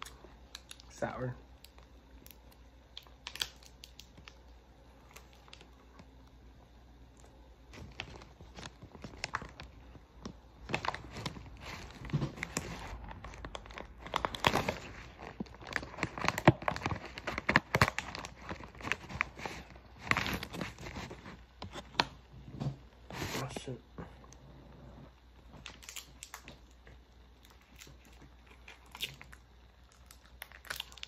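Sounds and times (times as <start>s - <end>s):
plastic packaging crinkling: 0.0s - 6.2s, 7.1s - 22.1s, 25.5s - 31.0s.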